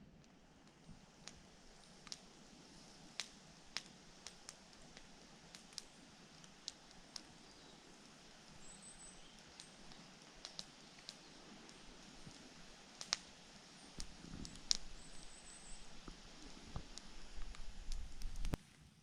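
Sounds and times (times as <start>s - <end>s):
campfire crackling: 0.0s - 19.0s
sharp pops from burning wood: 0.2s - 18.6s.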